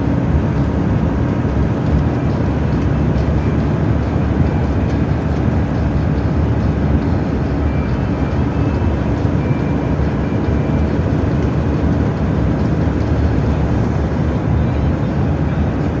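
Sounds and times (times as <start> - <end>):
road noise: 0.0 - 16.0
truck engine: 0.0 - 16.0.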